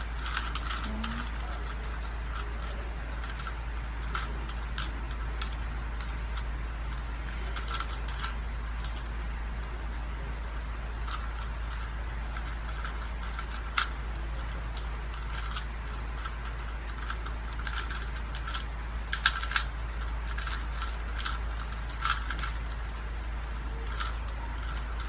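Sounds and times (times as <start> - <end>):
low hum: 0.0 - 25.0
puzzle cube clicking: 0.1 - 9.8, 11.0 - 25.0.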